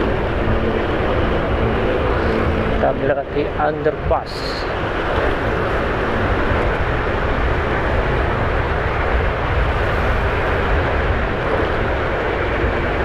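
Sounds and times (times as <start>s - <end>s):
motorbike traffic: 0.0s - 13.0s.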